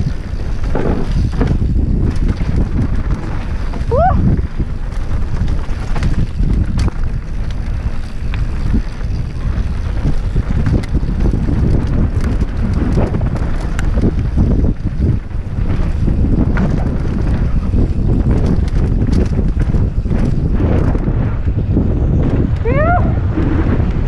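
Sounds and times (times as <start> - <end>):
bike rattling and knocking: 0.0 - 24.0
tyres rumbling on dirt: 0.0 - 24.0
wind buffeting microphone: 0.0 - 24.0.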